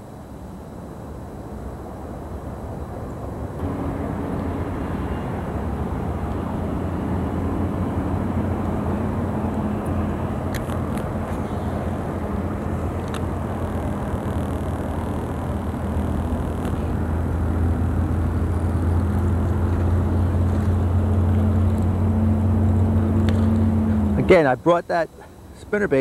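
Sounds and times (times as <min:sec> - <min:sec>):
boat motor humming: 0:03.6 - 0:25.7.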